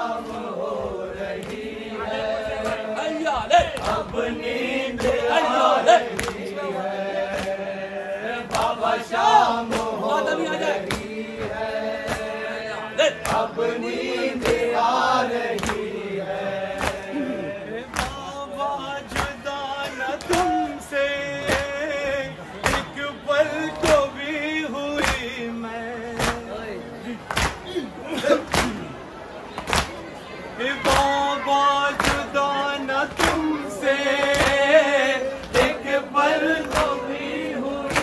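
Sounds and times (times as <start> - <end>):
men chanting in unison: 0.0 - 27.2, 30.6 - 38.0.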